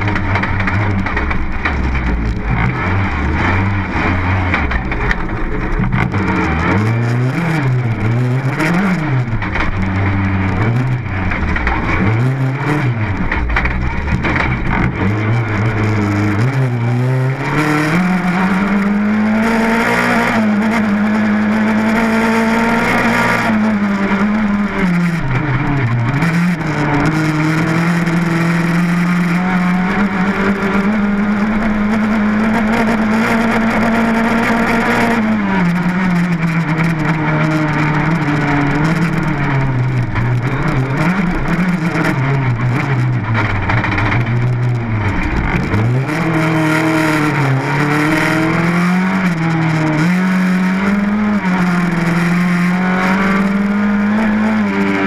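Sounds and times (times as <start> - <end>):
rally car engine revving: 0.0 - 55.0
tyre and road noise: 0.0 - 55.0.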